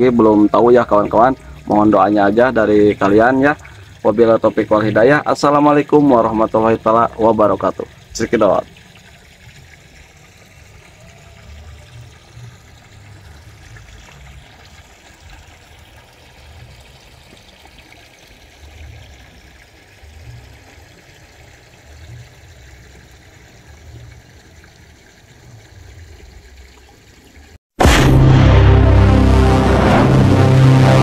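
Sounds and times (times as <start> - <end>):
water trickling: 0.0 - 27.6.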